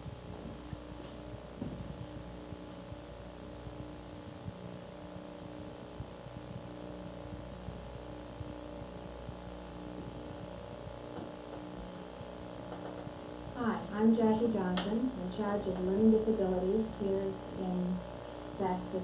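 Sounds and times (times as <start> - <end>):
constant hiss: 0.0 - 19.0
low hum of held tones: 0.0 - 19.0.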